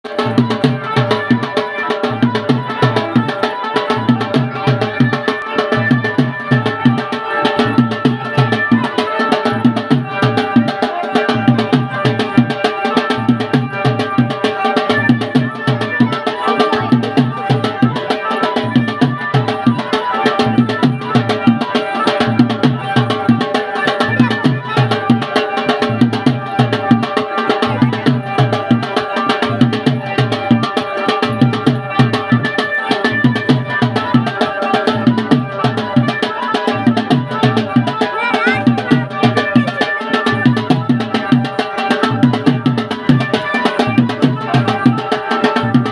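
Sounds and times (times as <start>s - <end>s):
held melody notes: 0.0s - 45.9s
rhythmic drum beat: 0.0s - 45.9s.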